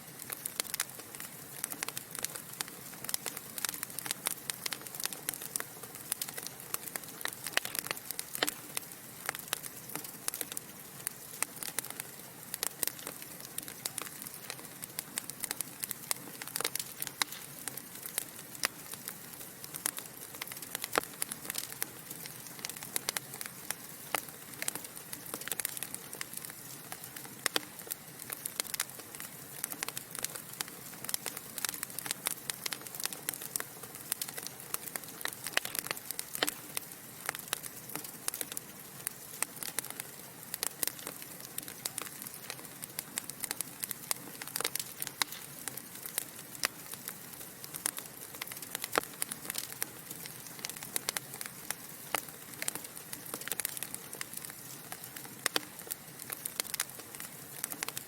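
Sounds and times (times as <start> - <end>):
logs crackling and popping: 0.0 - 58.0
fire hissing: 0.1 - 57.9.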